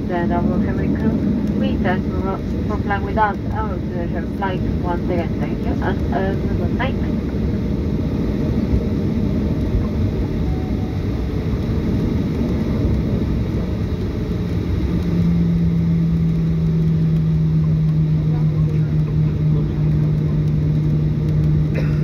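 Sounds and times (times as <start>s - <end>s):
airplane cabin rumble: 0.0s - 22.0s
low hum: 0.0s - 22.0s.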